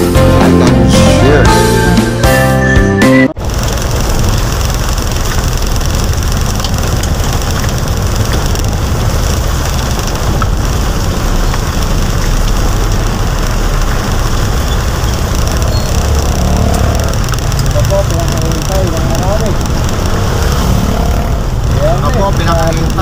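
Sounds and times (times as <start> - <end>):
heavy rain: 3.4 - 23.0
vehicle engine rumble: 3.4 - 23.0.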